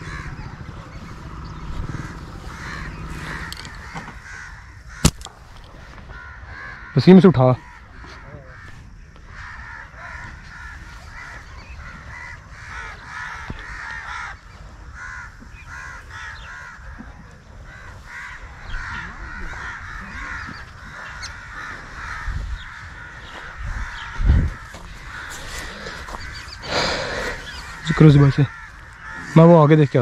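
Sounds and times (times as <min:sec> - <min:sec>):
low rumble on microphone: 0:00.0 - 0:06.9, 0:07.6 - 0:29.4
crows cawing: 0:00.0 - 0:30.0.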